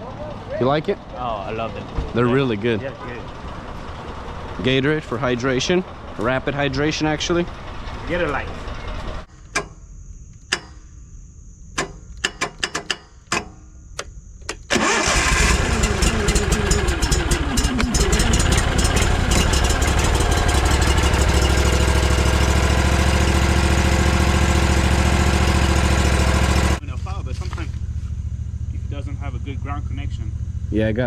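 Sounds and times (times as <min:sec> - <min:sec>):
engine starting and running: 0:00.6 - 0:09.3, 0:14.4 - 0:31.0.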